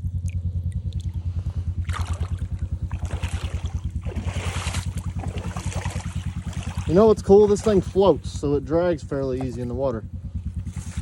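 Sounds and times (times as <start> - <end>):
water splashing from wading: 0.0 - 10.0
engine idling: 0.0 - 11.0.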